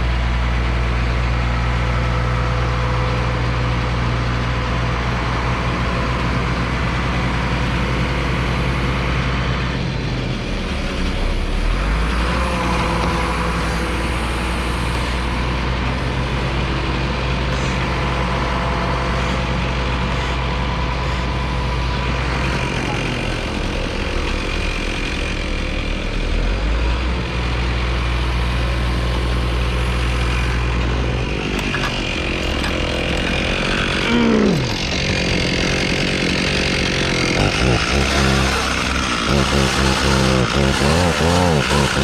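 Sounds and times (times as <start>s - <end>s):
heavy engine idling: 0.0s - 42.0s.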